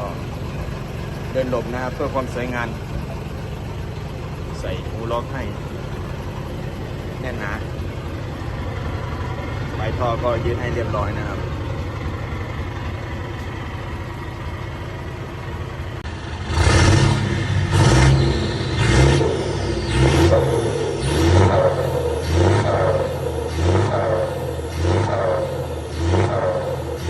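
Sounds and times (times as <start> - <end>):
engine idling and revving: 0.0 - 27.0.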